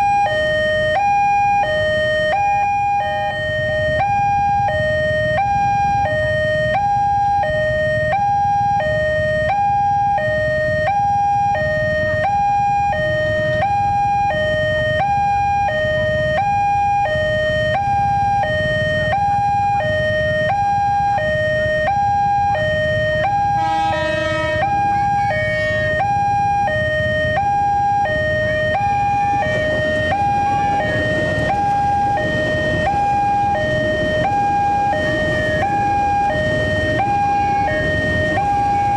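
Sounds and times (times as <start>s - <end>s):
low traffic rumble: 0.0s - 38.9s
two-tone crossing alarm: 0.0s - 38.9s.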